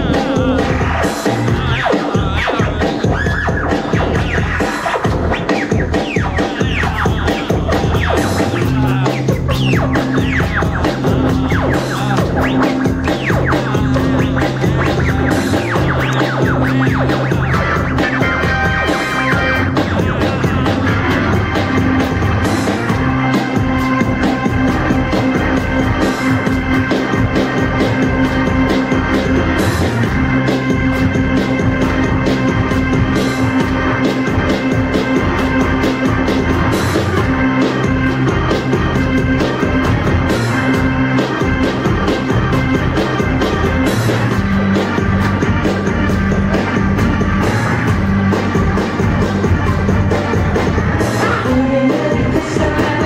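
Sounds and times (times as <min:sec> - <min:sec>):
electric organ chords: 0:00.0 - 0:53.0
steady beat with cymbals: 0:00.0 - 0:53.0.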